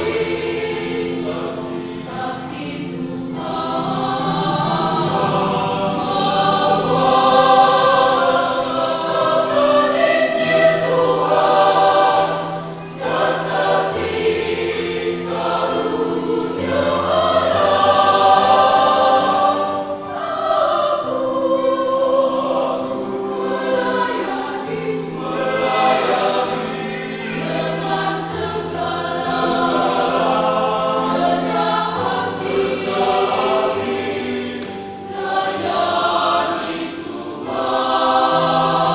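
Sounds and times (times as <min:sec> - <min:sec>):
choir singing chords: 0:00.0 - 0:38.9.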